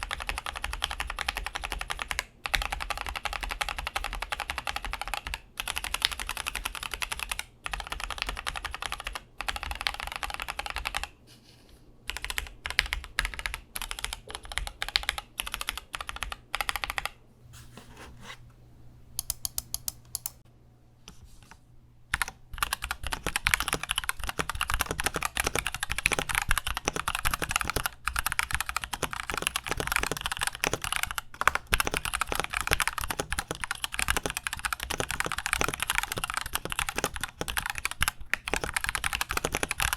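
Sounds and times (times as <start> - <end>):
mechanical keyboard typing: 0.0 - 11.1, 12.1 - 17.2, 19.2 - 20.4, 22.1 - 39.9.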